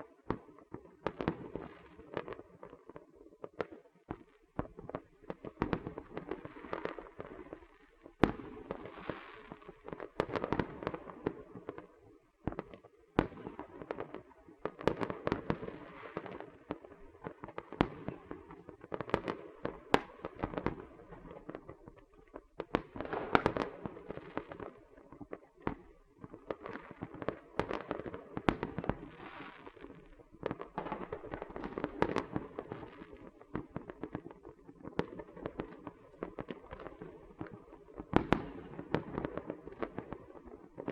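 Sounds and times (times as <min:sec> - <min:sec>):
continuous crackling: 0:00.2 - 0:40.9
firecrackers cracking and popping: 0:00.2 - 0:40.9.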